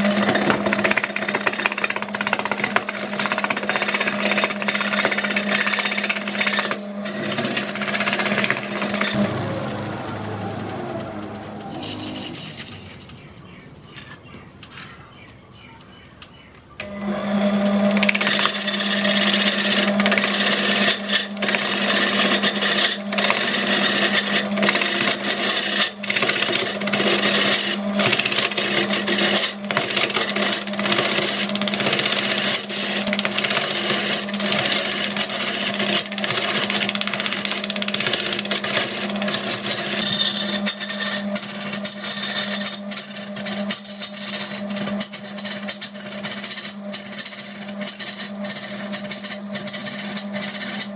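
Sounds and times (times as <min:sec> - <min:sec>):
gouge cutting wood: 0:00.0 - 0:13.1, 0:17.2 - 0:50.9
wood lathe humming: 0:00.0 - 0:13.7, 0:16.8 - 0:50.9.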